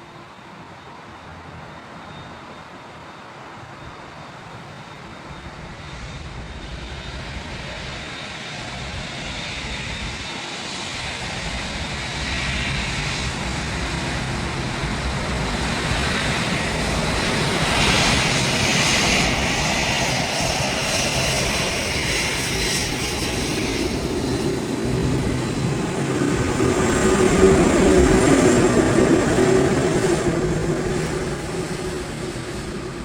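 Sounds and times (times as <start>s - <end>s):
jet engines rushing and whining: 0.0s - 33.0s.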